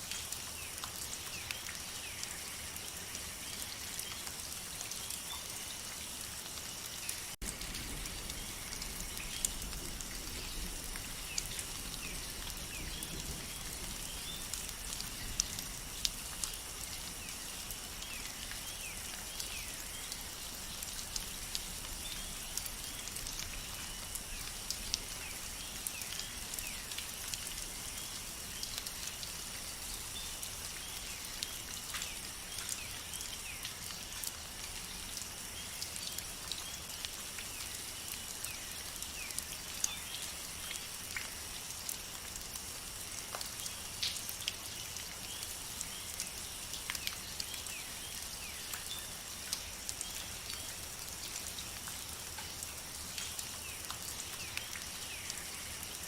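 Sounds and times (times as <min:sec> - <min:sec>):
rain falling in a forest: 0:00.0 - 0:56.0
raindrops ticking close by: 0:00.0 - 0:56.0.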